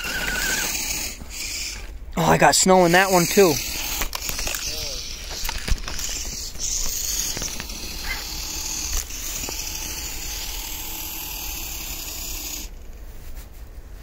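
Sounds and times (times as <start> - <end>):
rc vehicle motor grinding: 0.0 - 1.9, 2.8 - 12.8.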